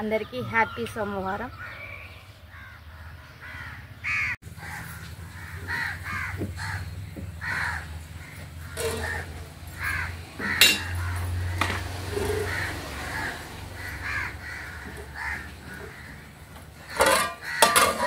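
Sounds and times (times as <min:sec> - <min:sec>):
crows cawing: 0:01.6 - 0:18.0.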